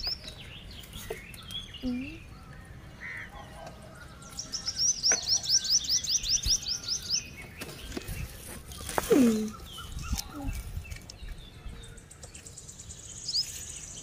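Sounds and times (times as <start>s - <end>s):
small bird calling: 0.0s - 12.5s.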